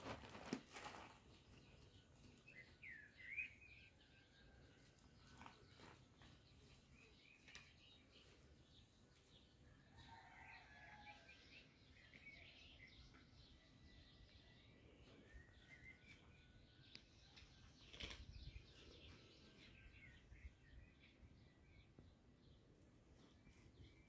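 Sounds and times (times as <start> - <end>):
faint birds chirping: 0.1 - 24.0.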